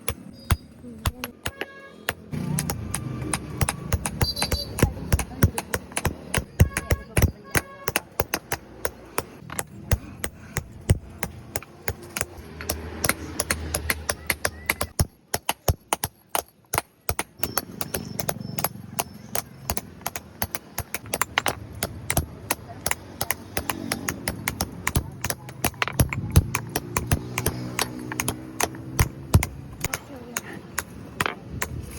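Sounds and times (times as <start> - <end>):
stone being chipped by hand: 0.0 - 31.9.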